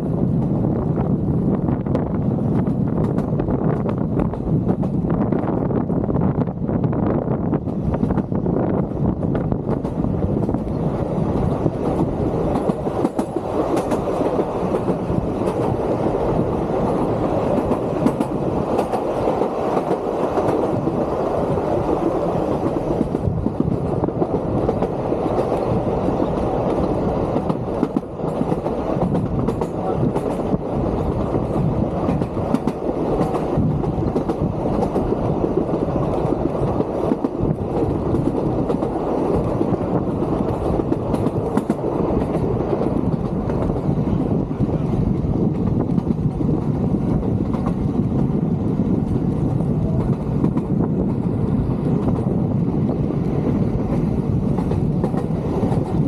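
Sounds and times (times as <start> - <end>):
electric train rolling rumble: 0.0 - 56.0.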